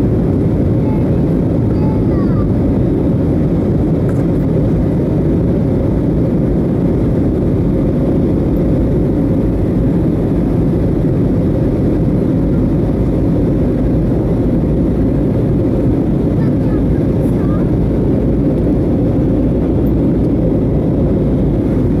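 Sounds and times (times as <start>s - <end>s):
aircraft cabin engine roar: 0.0s - 22.0s.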